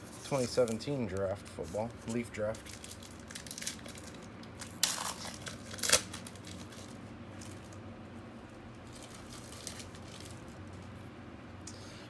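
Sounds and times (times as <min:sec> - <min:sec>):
foil wrapper tearing: 0:00.0 - 0:07.8, 0:08.8 - 0:10.8.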